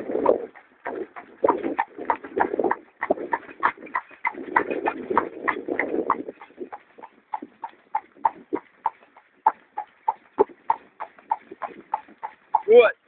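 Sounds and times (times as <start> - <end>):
hooves clip-clopping on road: 0.0 - 13.0.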